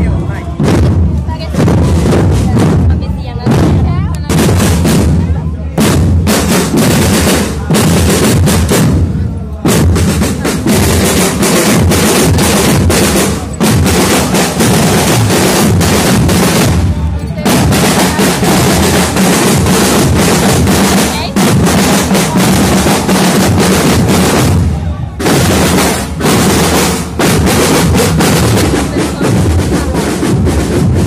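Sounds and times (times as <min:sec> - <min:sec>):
marching bass and snare drums: 0:00.0 - 0:31.0.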